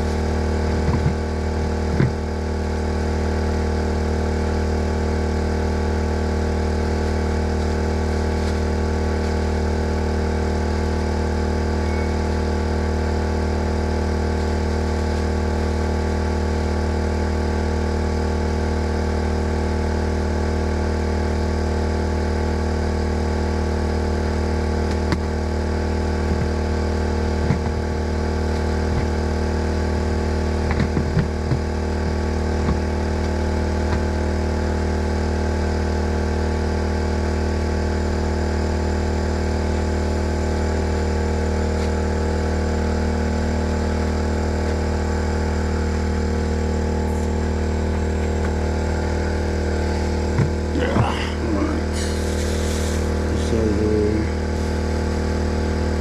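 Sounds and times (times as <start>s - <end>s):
portable generator humming: 0.0s - 56.0s.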